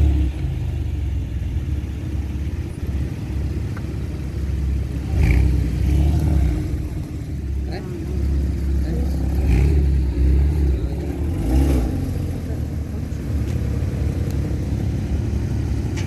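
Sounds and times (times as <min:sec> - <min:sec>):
car engine pulling away: 0:00.0 - 0:16.0.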